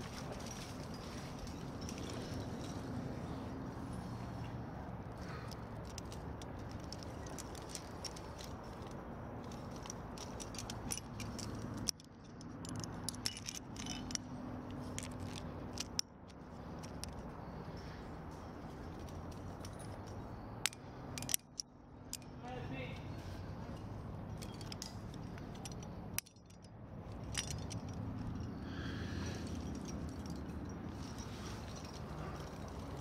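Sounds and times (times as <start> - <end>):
metal climbing gear clinking: 0.0 - 33.0.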